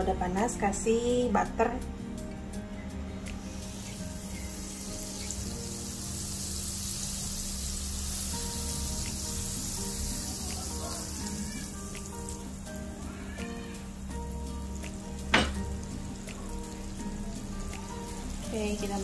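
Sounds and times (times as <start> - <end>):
butter sizzling in a pan: 3.3 - 19.0.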